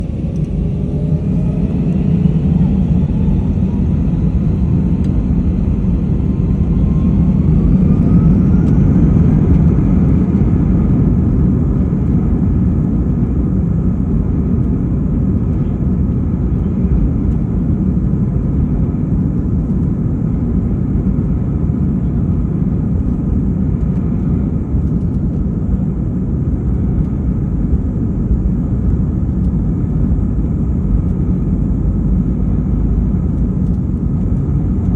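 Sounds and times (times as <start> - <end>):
jet engine whine rising: 0.0 - 34.9
jet engines rumbling: 0.0 - 34.9.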